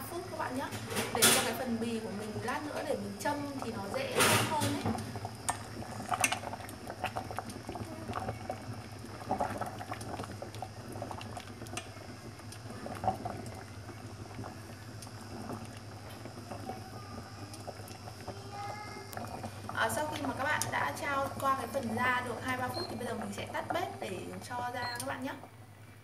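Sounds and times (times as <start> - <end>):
water boiling in a pot: 0.0 - 26.0.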